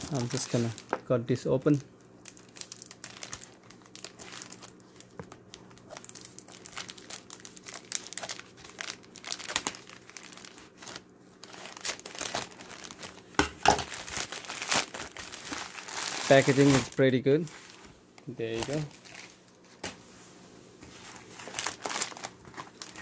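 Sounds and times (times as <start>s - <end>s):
plastic bag crinkling: 0.0s - 19.9s, 21.0s - 23.0s.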